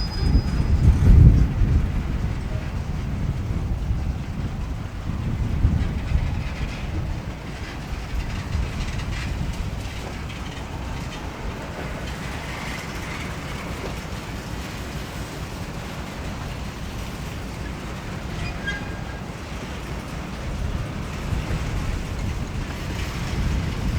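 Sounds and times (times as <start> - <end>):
train cars rumbling: 0.0 - 23.9
wheels clattering: 0.0 - 23.9.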